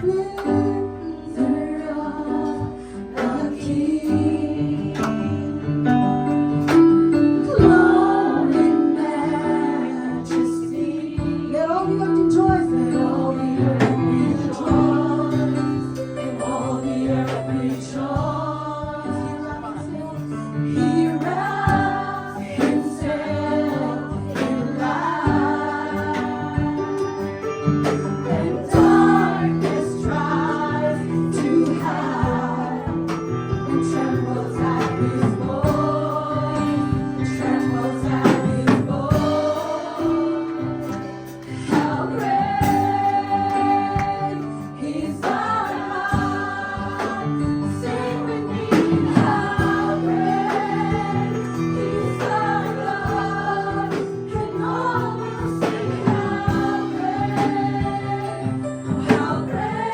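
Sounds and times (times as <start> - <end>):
instrumental accompaniment: 0.0 - 59.9
choir singing in unison: 1.3 - 5.4, 7.4 - 12.3, 12.9 - 27.2, 28.2 - 59.9.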